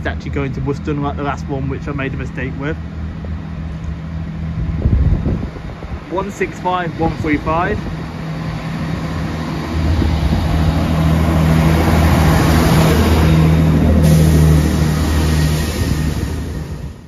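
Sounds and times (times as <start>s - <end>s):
diesel train engine drone: 0.0s - 17.0s
rumbling wheel and track noise: 0.0s - 17.0s.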